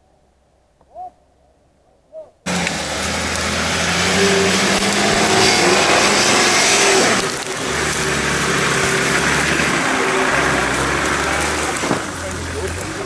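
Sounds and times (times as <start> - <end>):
branches cracking under tyres: 2.5 - 13.0
off-road vehicle engine under load: 2.5 - 13.0.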